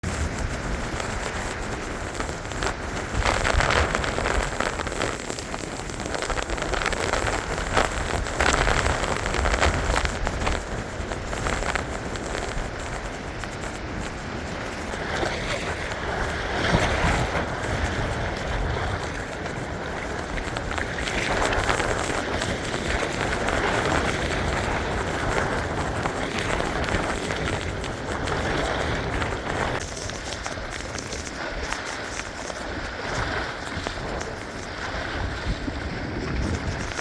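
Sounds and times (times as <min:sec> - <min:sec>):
blizzard wind blowing hard: 0:00.0 - 0:37.0.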